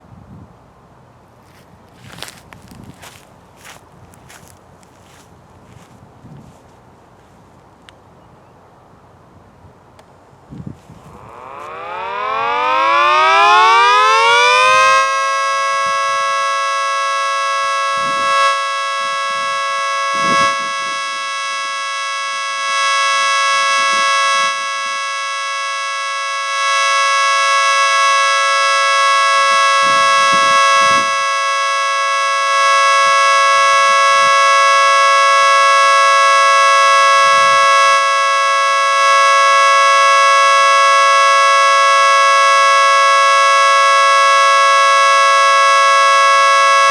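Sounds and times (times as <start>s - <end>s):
three-tone siren: 1.5s - 5.9s, 10.9s - 46.9s.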